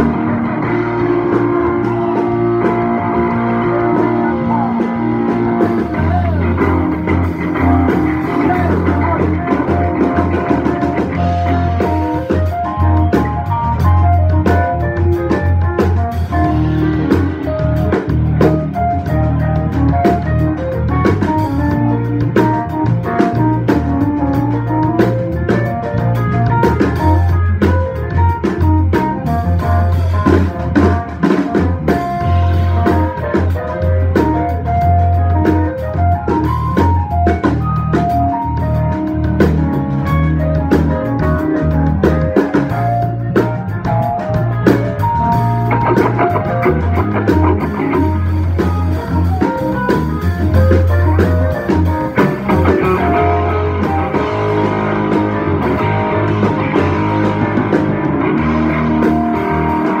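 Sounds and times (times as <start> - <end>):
drum kit: 0.0 - 60.0
electric guitar melodic lead: 0.0 - 60.0.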